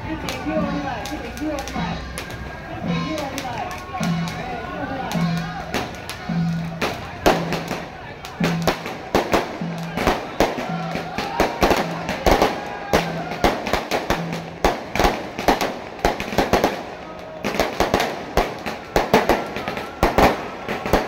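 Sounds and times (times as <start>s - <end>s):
faint music: 0.0s - 21.0s
firecrackers banging: 0.0s - 21.0s
voices: 0.0s - 21.0s.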